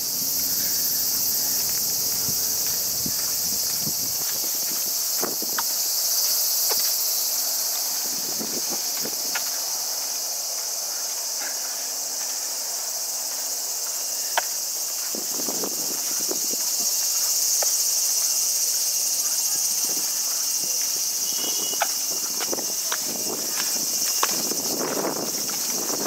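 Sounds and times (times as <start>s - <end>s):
footsteps on pavement: 0.0s - 26.0s
insects trilling: 0.0s - 26.0s.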